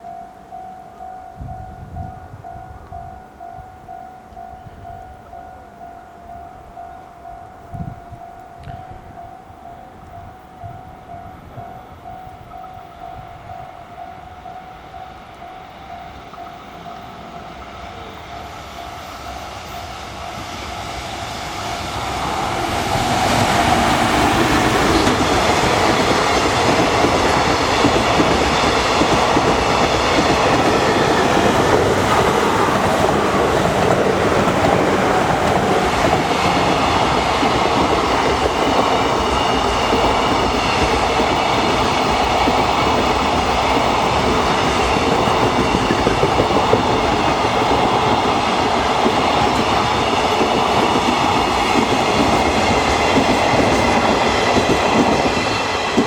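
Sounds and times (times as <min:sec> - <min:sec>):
trains passing with wheels clattering: 0:00.0 - 0:56.0.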